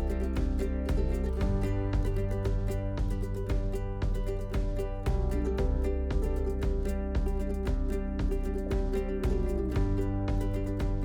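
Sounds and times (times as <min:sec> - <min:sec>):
background music with strummed guitar: 0:00.0 - 0:11.0.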